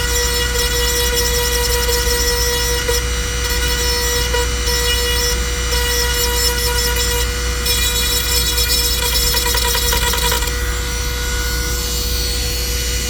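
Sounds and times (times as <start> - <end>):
rotary tool grinding plastic: 0.0 - 11.8.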